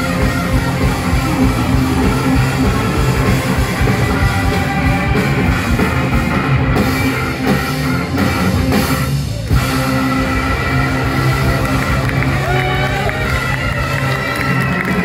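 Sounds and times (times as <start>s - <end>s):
blues-rock band playing loudly: 0.0s - 15.0s.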